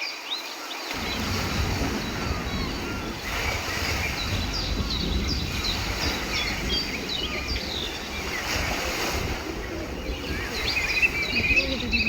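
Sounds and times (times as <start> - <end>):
small birds chirping: 0.1 - 12.0
sea surf washing: 0.9 - 12.0
wind rumbling on microphone: 0.9 - 12.0.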